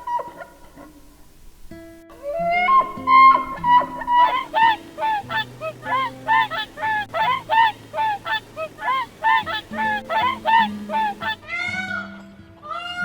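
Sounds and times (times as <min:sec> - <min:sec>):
birds honking: 0:00.0 - 0:11.5.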